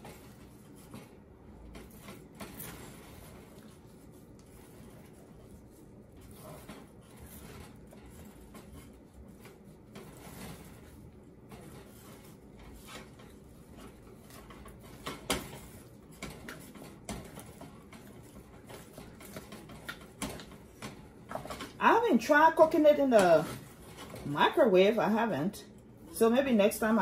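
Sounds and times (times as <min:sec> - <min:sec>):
dough squelching: 0:00.0 - 0:27.0.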